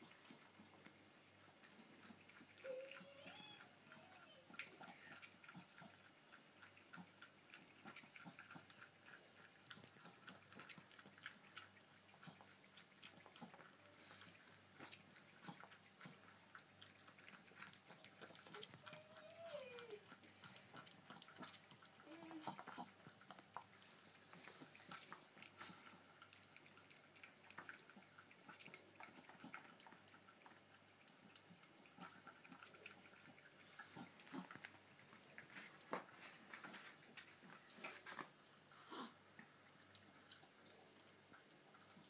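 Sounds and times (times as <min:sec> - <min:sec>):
dog licking and lapping: 0:00.0 - 0:42.0.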